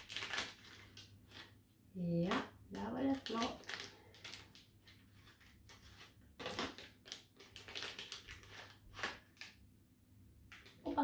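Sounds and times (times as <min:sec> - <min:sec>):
packet rustling and crinkling: 0:00.0 - 0:09.7, 0:10.4 - 0:11.0.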